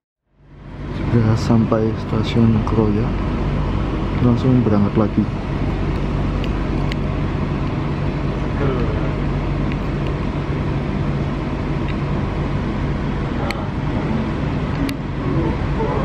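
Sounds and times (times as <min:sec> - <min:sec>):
train rumbling: 0:00.6 - 0:16.0.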